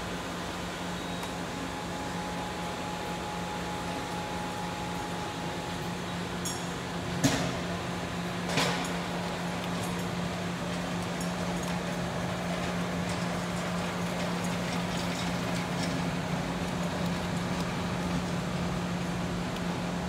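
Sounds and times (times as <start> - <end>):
machine low hum: 0.0 - 20.0.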